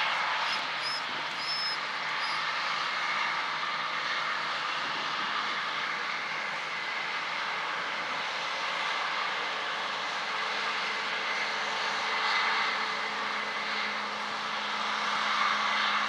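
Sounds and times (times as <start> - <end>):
machinery engine droning: 0.0 - 16.0.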